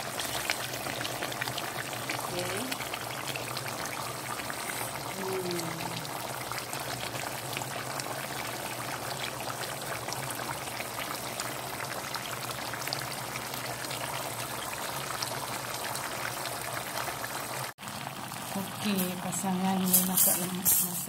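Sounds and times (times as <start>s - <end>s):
gravy bubbling in a pot: 0.0s - 20.7s.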